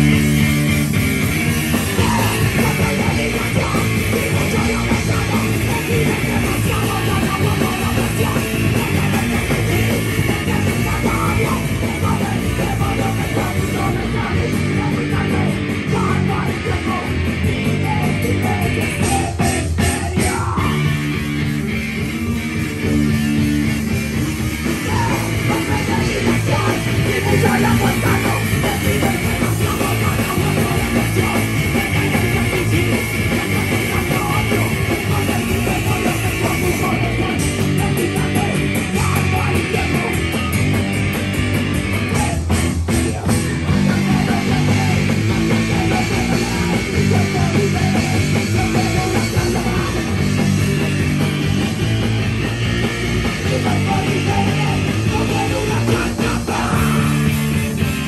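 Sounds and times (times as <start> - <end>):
bass guitar: 0.0 - 58.0
drum kit: 0.0 - 58.0
electric guitar: 0.0 - 58.0.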